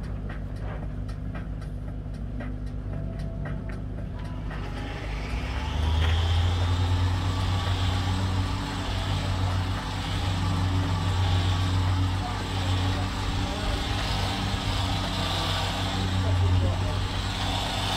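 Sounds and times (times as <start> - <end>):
motor humming: 0.0 - 17.9.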